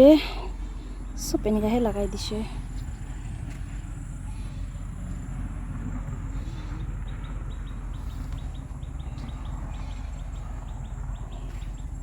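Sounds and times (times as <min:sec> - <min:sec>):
low rumble on microphone: 0:00.0 - 0:12.0
bird chirping: 0:00.4 - 0:12.0.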